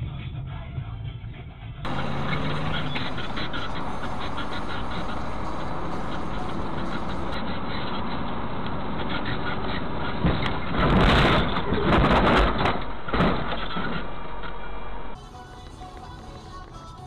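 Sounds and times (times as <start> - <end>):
engine and road noise: 0.8 - 17.0.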